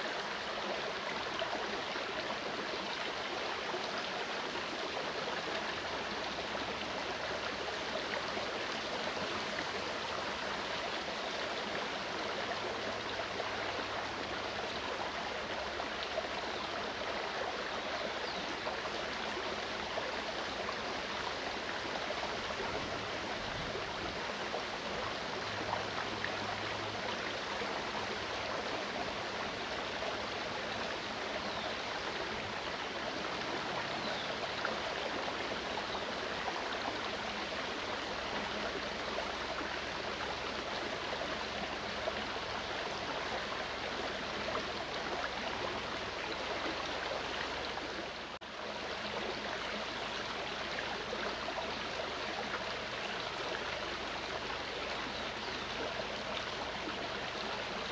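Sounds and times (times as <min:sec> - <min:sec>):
stream rushing and babbling: 0:00.0 - 0:57.9.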